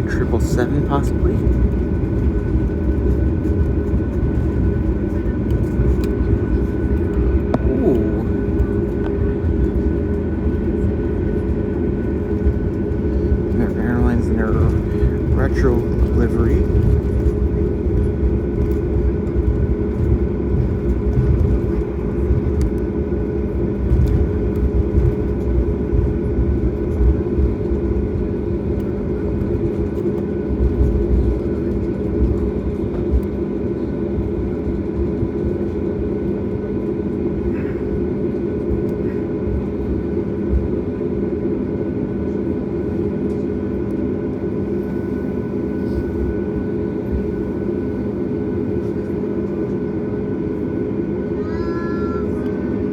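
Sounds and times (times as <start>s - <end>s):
jet engines idling: 0.0s - 51.4s
airplane cabin hum: 0.0s - 52.9s.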